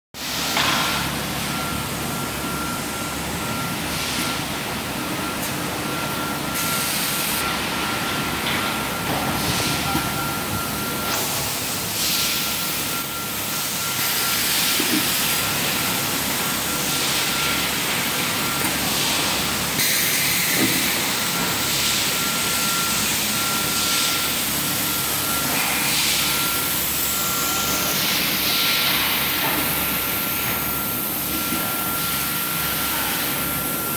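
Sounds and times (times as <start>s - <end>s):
machinery hum: 0.2s - 33.9s.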